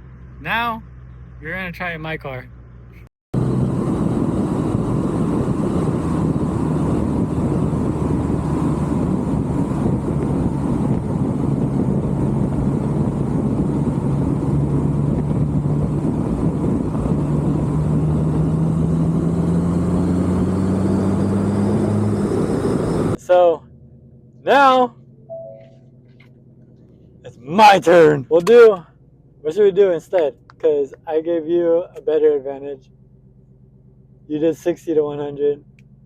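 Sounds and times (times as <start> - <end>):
car engine driving: 0.0 - 36.0
road noise: 0.0 - 36.0.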